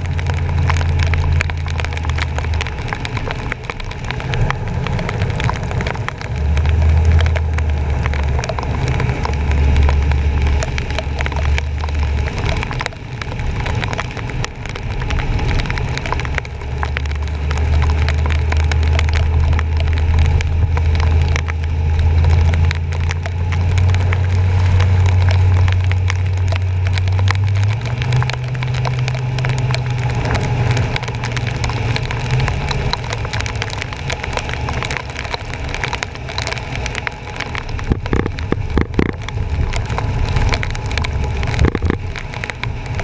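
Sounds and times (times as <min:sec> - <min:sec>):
rain and water spray crackling: 0:00.0 - 0:43.0.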